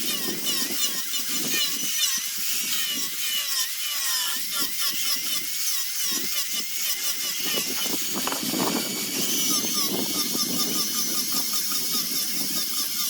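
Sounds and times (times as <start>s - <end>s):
abrasive rasping on wood: 0.0s - 13.0s
rotary sanding tool whine: 0.0s - 13.0s.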